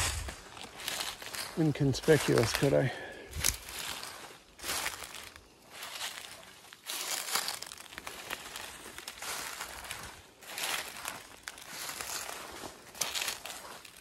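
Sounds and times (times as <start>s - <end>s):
dry leaves crunching underfoot: 0.0s - 14.0s.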